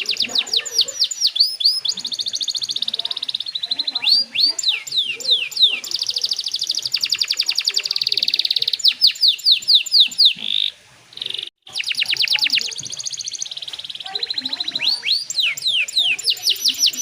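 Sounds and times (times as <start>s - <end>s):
canary singing trills and whistles: 0.0s - 17.0s.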